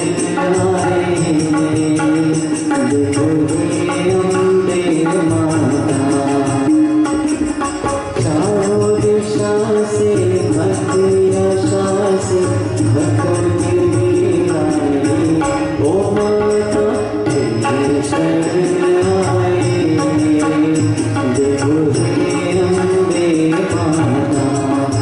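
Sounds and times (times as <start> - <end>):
harmonium: 0.0 - 25.0
man singing: 0.0 - 25.0
tabla rhythm: 0.0 - 25.0.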